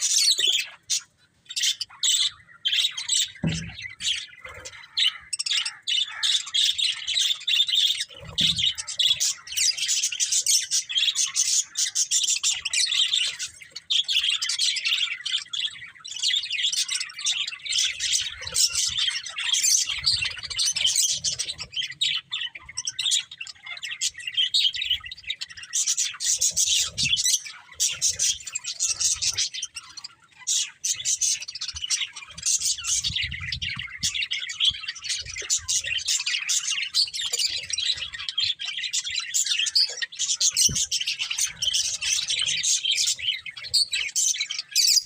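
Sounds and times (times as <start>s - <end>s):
budgerigars chirping: 0.0s - 45.0s.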